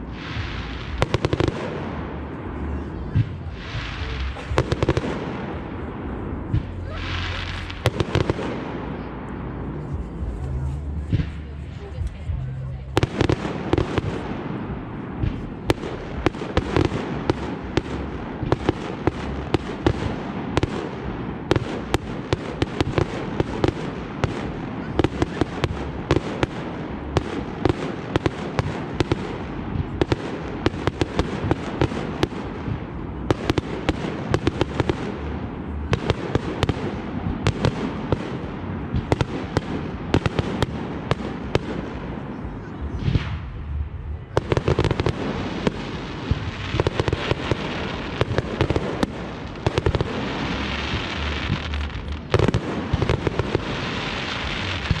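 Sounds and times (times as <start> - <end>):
fireworks bangs and pops: 0.0 - 55.0
fireworks crackling: 0.0 - 55.0.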